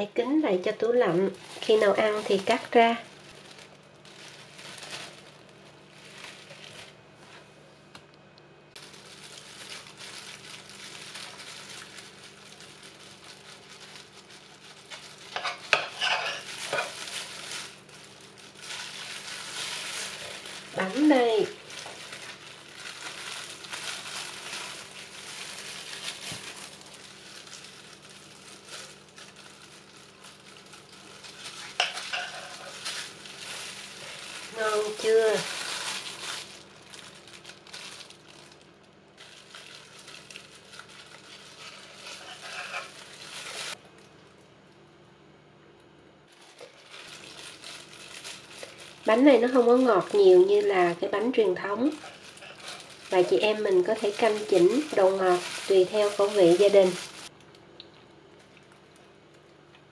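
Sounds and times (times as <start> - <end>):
plastic film crinkling: 0.3 - 8.1, 8.7 - 44.8, 46.3 - 59.9.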